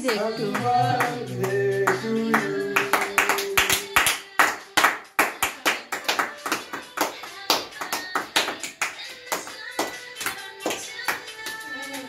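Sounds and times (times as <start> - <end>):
people clapping in rhythm: 0.0 - 12.0.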